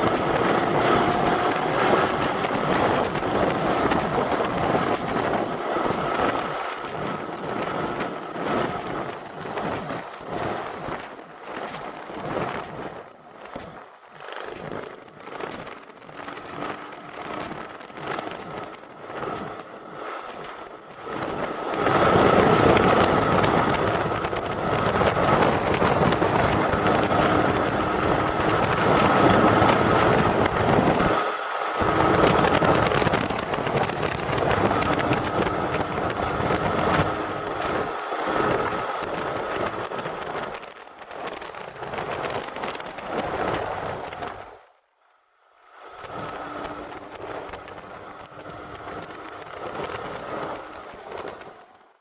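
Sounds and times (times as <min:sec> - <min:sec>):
motorcycle engine running: 0:00.0 - 0:44.8, 0:45.8 - 0:52.0
wind rushing over microphone: 0:00.0 - 0:52.0.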